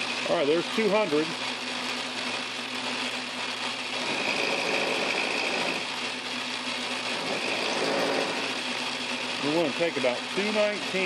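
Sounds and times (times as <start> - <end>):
machine hum: 0.0 - 11.0
metal cutting sound: 0.0 - 11.0.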